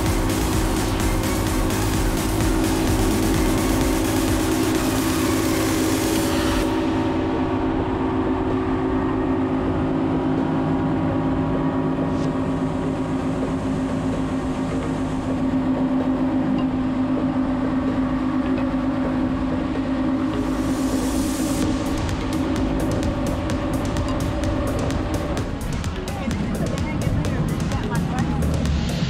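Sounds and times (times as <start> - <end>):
outboard motors droning: 0.0 - 29.0.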